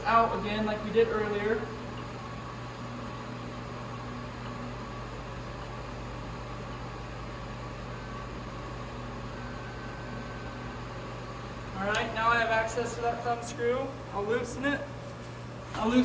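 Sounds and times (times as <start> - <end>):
stepper motor whine: 0.0 - 13.6
low hum: 0.0 - 16.0.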